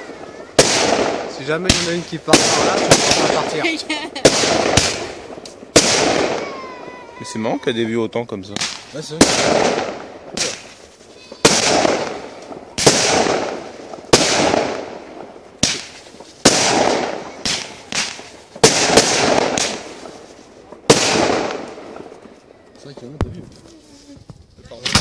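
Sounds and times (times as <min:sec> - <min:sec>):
firework shots with hiss: 0:00.0 - 0:07.5, 0:08.5 - 0:25.0.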